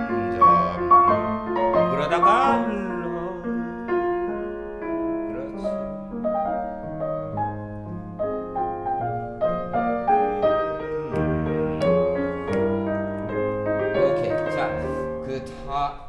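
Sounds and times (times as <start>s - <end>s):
classical piano piece: 0.0s - 16.0s.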